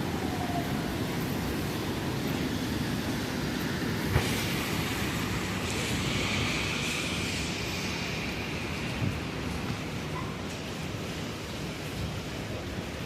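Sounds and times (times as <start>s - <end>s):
subway train rumbling on track: 0.0s - 13.0s.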